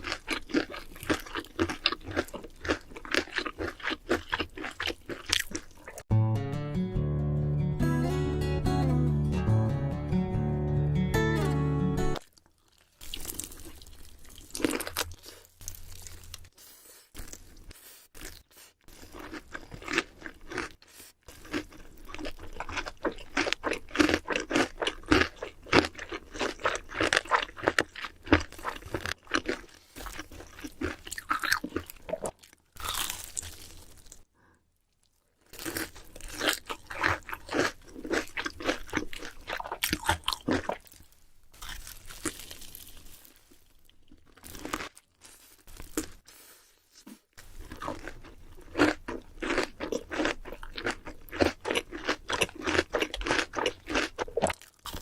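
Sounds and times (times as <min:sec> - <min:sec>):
crunching and chewing fried chicken: 0:00.0 - 0:06.1, 0:12.2 - 0:55.0.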